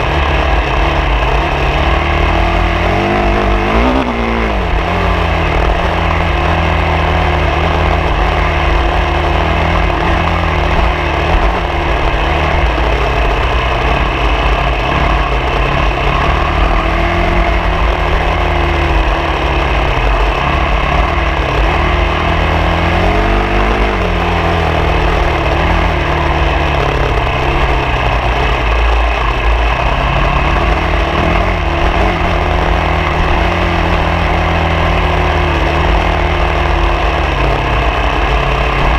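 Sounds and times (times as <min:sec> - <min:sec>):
constant rushing noise: 0:00.0 - 0:38.9
vehicle engine running: 0:00.0 - 0:38.9.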